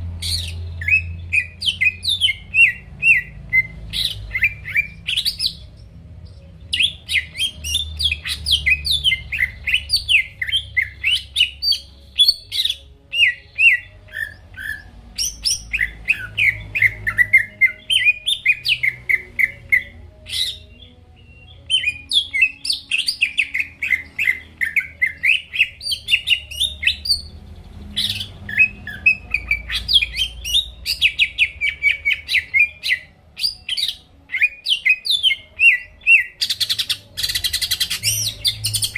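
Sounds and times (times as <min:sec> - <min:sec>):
bird chirping and whistling: 0:00.2 - 0:38.9.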